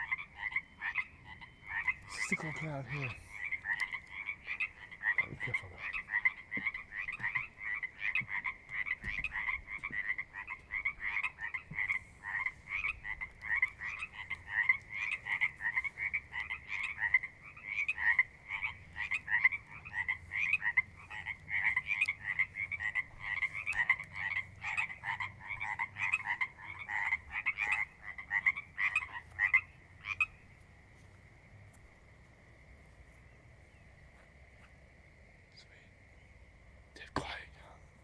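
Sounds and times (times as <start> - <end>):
frogs calling: 0.0 - 38.0.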